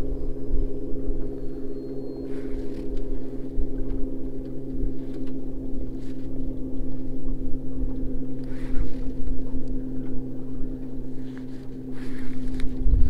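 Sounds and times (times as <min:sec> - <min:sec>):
boat motor humming: 0:00.0 - 0:13.0
wind rumbling on microphone: 0:00.0 - 0:13.0.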